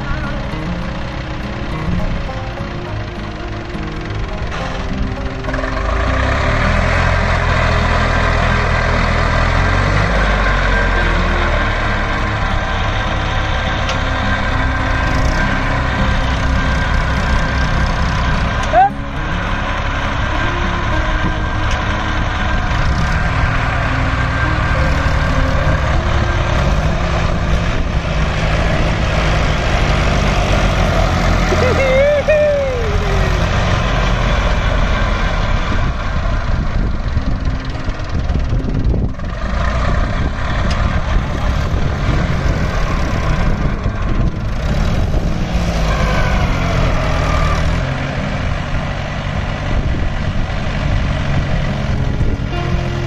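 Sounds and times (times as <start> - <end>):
diesel tractor engines running hard: 0.0 - 53.0.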